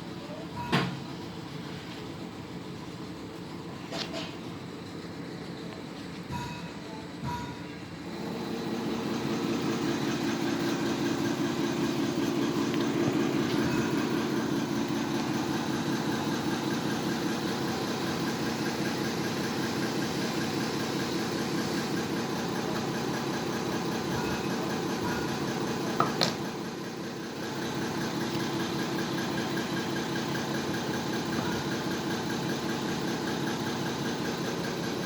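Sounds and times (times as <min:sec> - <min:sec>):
machine rattling hum: 0:00.0 - 0:35.0.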